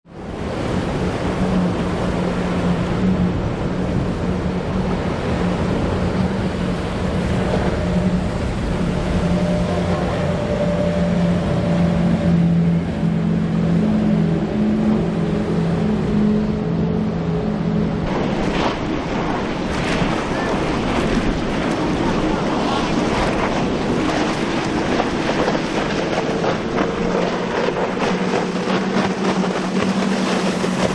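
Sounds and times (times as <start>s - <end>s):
boat engine drone: 0.0s - 30.9s
rushing spray and wake: 0.0s - 30.9s
wind gusts: 0.0s - 30.9s.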